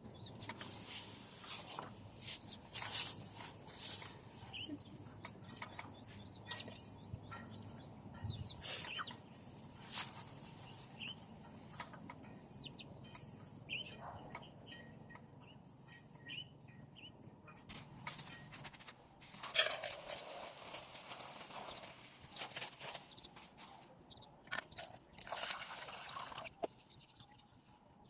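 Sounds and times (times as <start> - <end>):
small birds chirping: 0.0 - 18.9, 20.1 - 25.5, 26.1 - 28.0.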